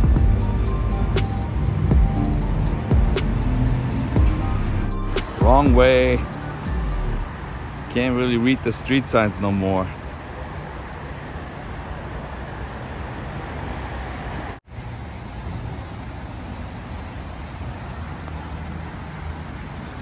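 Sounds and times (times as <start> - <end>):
city traffic: 0.0 - 20.0.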